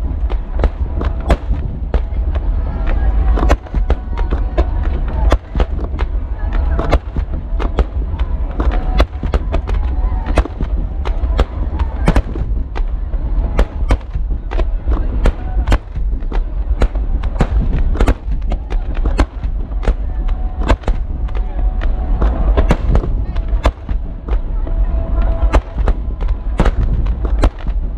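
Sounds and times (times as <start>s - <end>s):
crowd voices: 0.0s - 27.9s
deep rumble: 0.0s - 27.9s
fireworks bangs: 0.0s - 27.9s.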